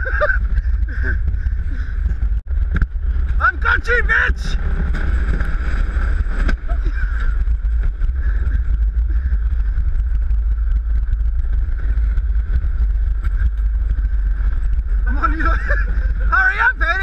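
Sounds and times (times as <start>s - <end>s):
higher hum: 0.0s - 17.0s
wheels rumbling and rushing air: 0.0s - 17.0s.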